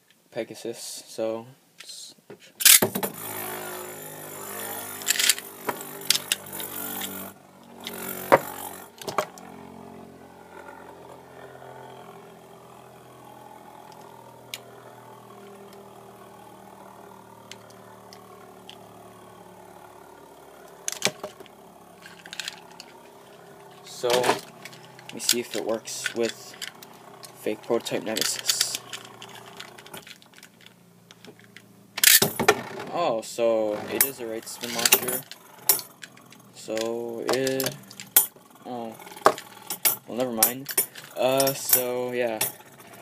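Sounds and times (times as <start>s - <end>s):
spinning top whirring: 2.6s - 43.0s.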